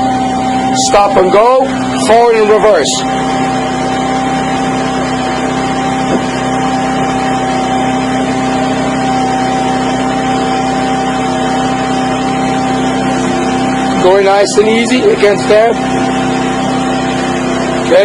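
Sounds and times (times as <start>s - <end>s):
hydraulic drive humming and whining: 0.0s - 18.0s.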